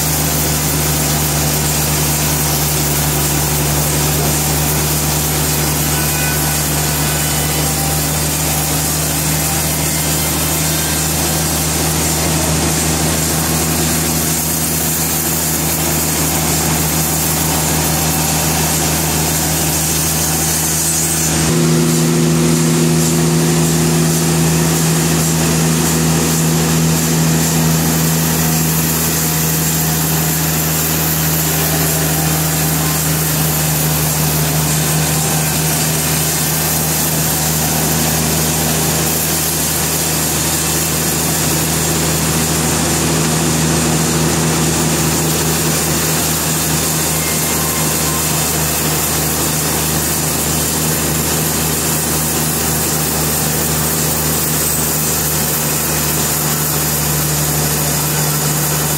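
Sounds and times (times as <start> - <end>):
motor humming: 0.0 - 58.9
saw and machine noise: 0.0 - 58.9.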